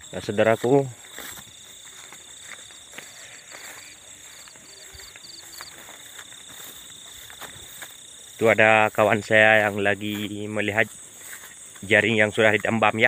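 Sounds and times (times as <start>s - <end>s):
crickets pulsed chirping: 0.0s - 13.0s
insects trilling: 0.0s - 13.0s.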